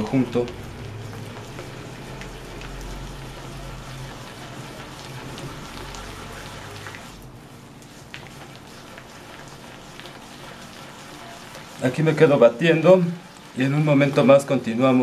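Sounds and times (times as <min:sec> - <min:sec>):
mixture squishing in glass bowl: 0:00.0 - 0:15.0.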